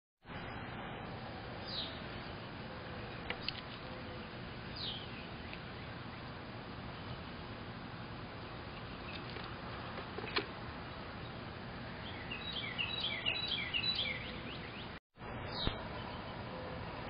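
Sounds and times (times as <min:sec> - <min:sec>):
steady outdoor hiss: 0:00.2 - 0:17.0.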